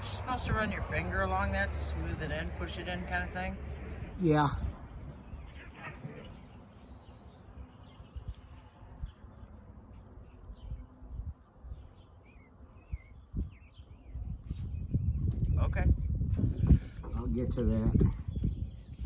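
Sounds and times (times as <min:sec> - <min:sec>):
low outdoor rumble: 0:00.0 - 0:19.0
small birds chirping: 0:00.0 - 0:19.0.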